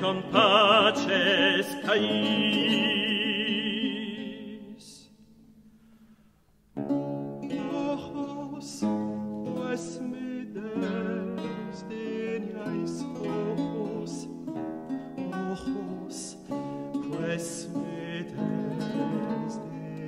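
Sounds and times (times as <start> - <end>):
man singing: 0.0 - 5.3, 7.5 - 14.6, 15.2 - 20.0
plucked and strummed guitar chords: 0.0 - 6.0, 6.7 - 20.0.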